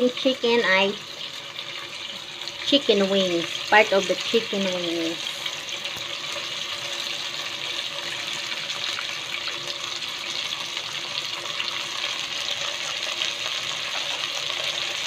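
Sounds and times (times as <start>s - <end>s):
oil sizzling in a pot: 0.0s - 15.0s.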